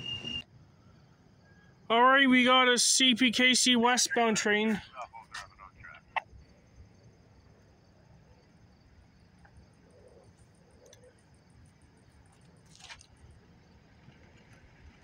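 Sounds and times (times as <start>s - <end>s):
faint crickets chirping: 0.0s - 15.0s.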